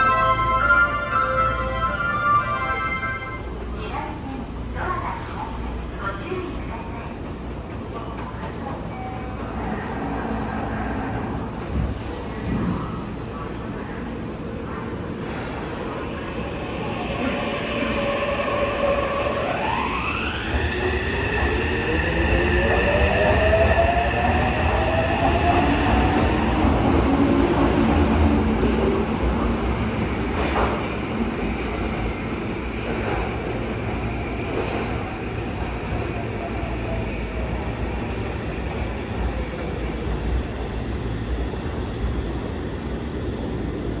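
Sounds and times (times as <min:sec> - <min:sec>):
subway train rumbling in tunnel: 0:00.0 - 0:44.0.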